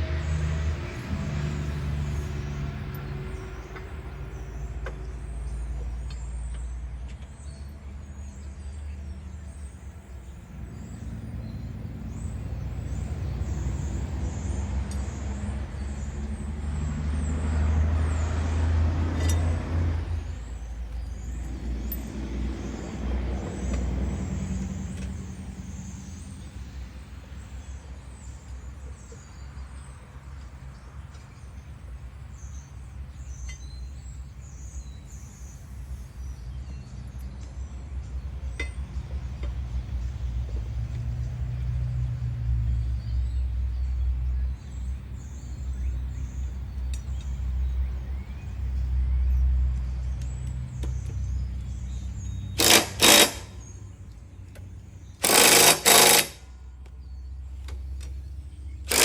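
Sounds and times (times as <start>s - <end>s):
engine humming: 0.0s - 59.0s.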